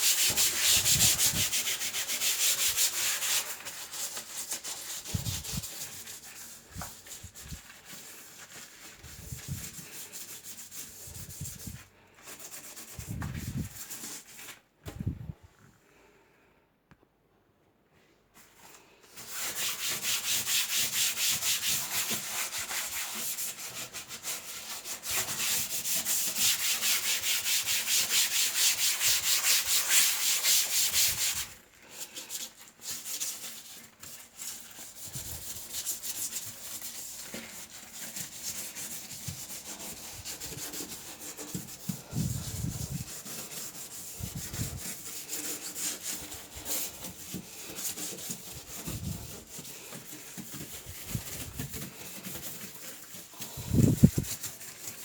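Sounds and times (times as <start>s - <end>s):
hand scrubbing a surface: 0.0s - 14.6s, 18.4s - 55.0s
wiping and rubbing: 0.0s - 14.6s, 18.4s - 55.0s.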